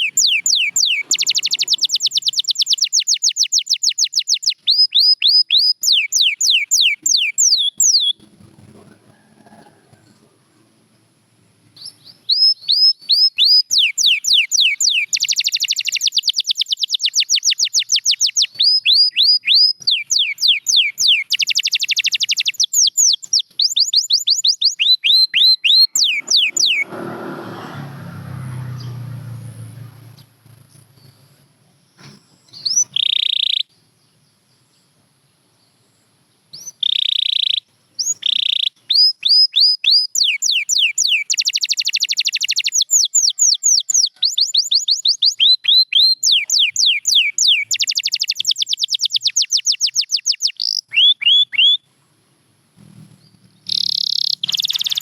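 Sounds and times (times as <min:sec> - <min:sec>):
canary singing: 0:00.0 - 0:10.7, 0:11.8 - 0:27.5, 0:32.0 - 0:33.8, 0:36.5 - 0:51.9, 0:52.8 - 0:55.0.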